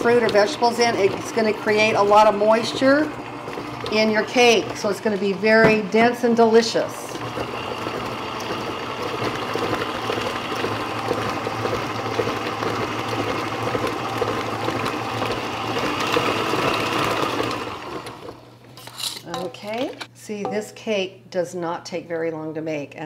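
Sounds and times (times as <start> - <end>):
stand mixer churning batter: 0.0 - 18.5.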